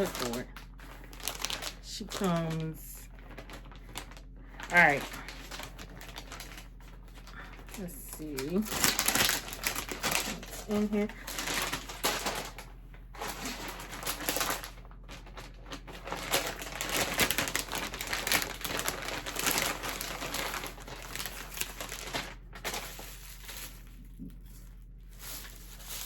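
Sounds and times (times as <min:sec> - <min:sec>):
packaging rustling and crackling: 0:00.0 - 0:26.0.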